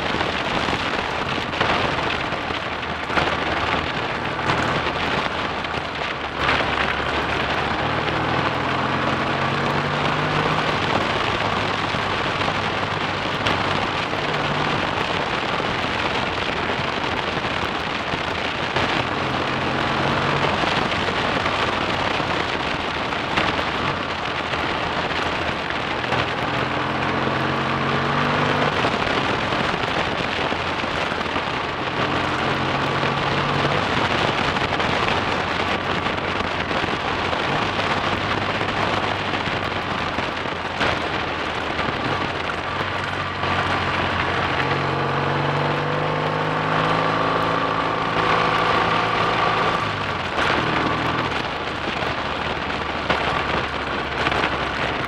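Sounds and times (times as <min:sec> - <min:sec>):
motorcycle engine revving: 0:00.0 - 0:16.2, 0:16.9 - 0:55.0
wind rushing on camera: 0:00.0 - 0:55.0.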